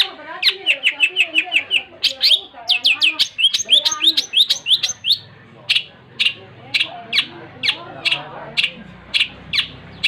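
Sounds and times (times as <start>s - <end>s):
low bird warbling: 0.0s - 10.0s
bird singing sharp chirps: 0.4s - 10.0s.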